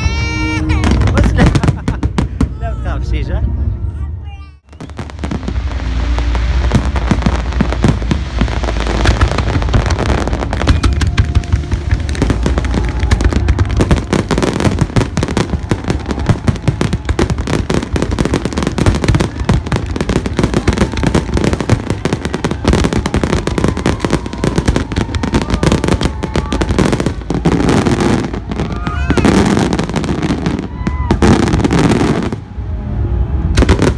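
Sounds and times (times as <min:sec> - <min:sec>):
deep low rumble: 0:03.4 - 0:33.9.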